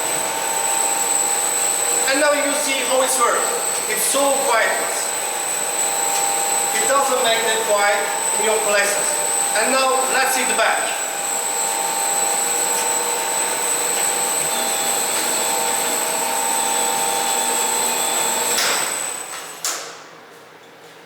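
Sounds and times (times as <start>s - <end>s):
washing machine hum and whine: 0.0s - 21.0s.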